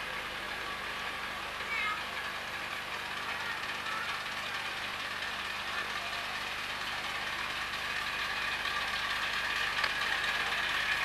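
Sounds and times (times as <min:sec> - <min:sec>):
miniature train running: 0:00.0 - 0:11.0.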